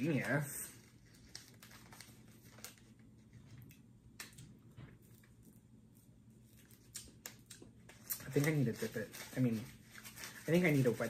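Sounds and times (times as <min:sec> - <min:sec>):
candy wrapper crinkling: 0:00.0 - 0:04.3, 0:05.0 - 0:11.0.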